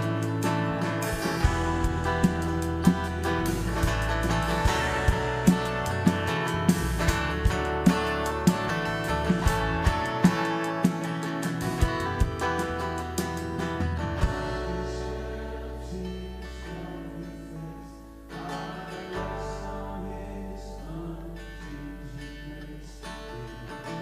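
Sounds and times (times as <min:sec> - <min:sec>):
acoustic guitar strumming: 0:00.0 - 0:24.0
bass notes: 0:00.0 - 0:24.0.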